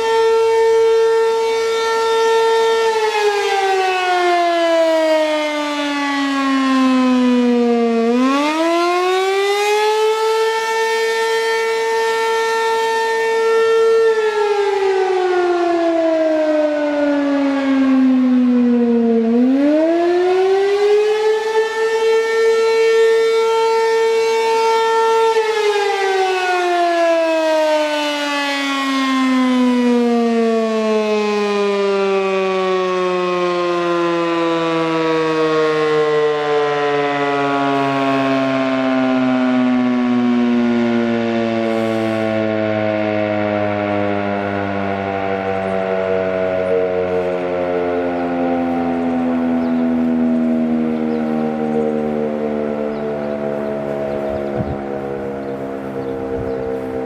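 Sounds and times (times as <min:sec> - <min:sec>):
wavering mechanical siren: 0:00.0 - 0:57.0.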